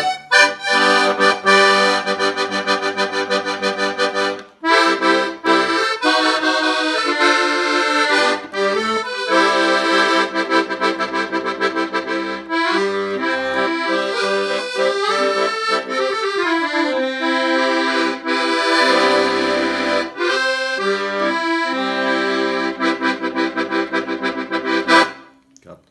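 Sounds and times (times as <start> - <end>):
accordion playing a tune: 0.0 - 25.4.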